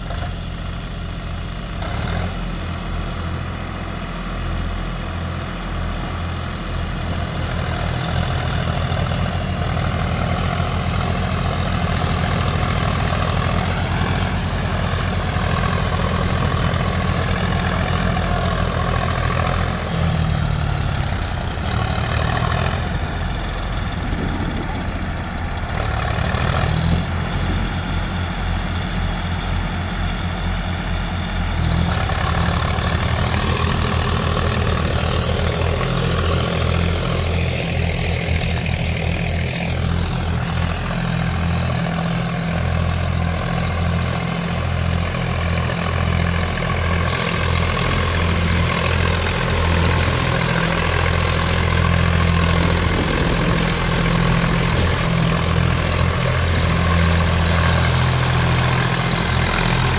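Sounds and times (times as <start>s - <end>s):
diesel tractor engines chugging: 0.0s - 59.9s.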